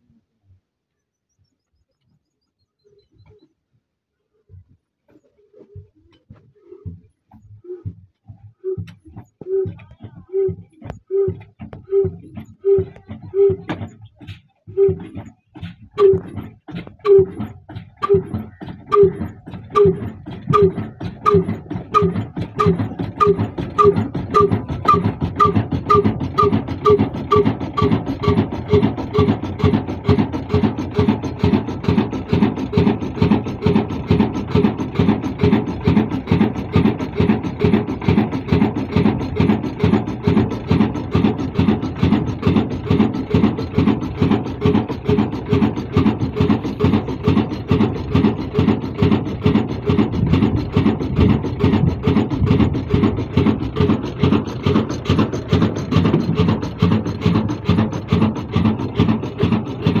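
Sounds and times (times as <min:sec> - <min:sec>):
stationary diesel engine running: 0:05.8 - 1:00.0.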